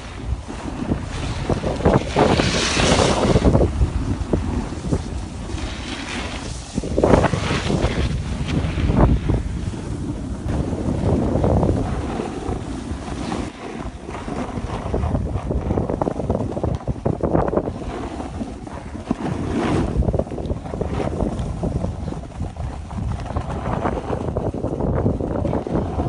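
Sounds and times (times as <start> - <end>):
snowboard edges scraping snow: 0.0 - 26.0
wind rushing over microphone: 0.0 - 26.0.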